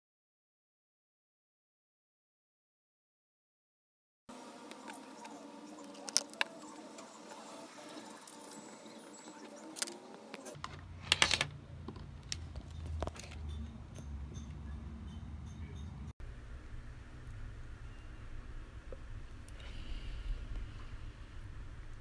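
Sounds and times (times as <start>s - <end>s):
low steady hum: 4.3s - 22.0s.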